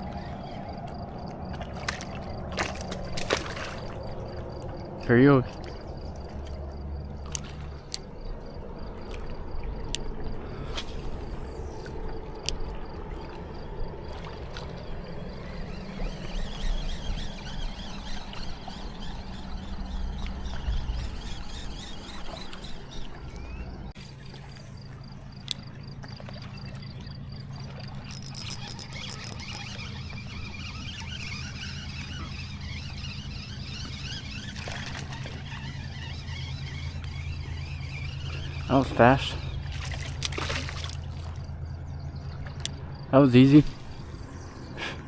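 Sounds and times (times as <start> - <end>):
river water splashing and trickling: 0.0 - 45.0.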